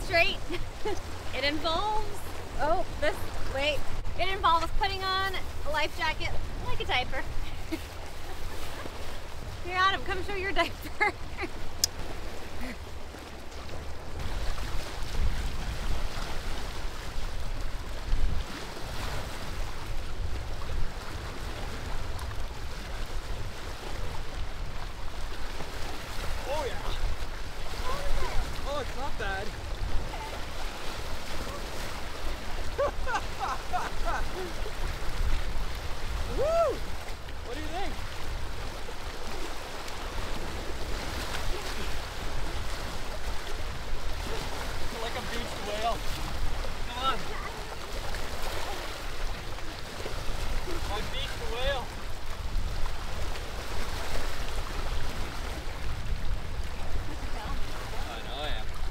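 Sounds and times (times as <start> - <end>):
waves lapping against rock: 0.0 - 58.9
wind buffeting microphone: 0.0 - 58.9.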